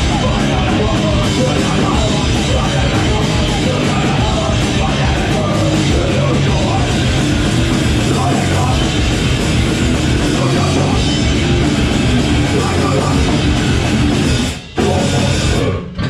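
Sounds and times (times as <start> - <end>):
bass guitar: 0.0 - 16.0
distorted electric guitars: 0.0 - 16.0
drum kit: 0.0 - 16.0.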